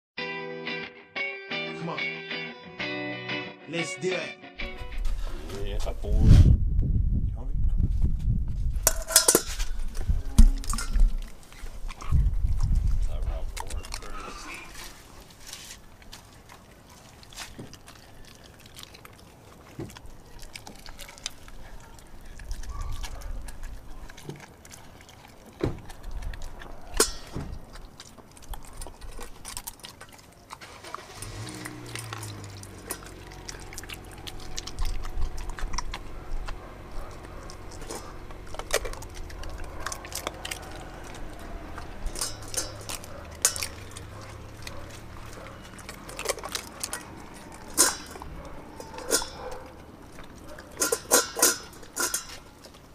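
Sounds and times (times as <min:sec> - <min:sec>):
dog chewing and crunching bone: 0:08.7 - 0:52.9
teeth clicking on bone and bowl: 0:08.9 - 0:14.8, 0:15.8 - 0:52.9.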